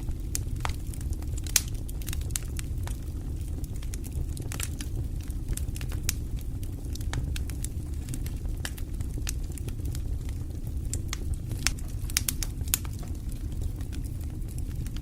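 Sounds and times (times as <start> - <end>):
low rush of flame: 0.0 - 15.0
wood fire crackling and popping: 0.0 - 15.0.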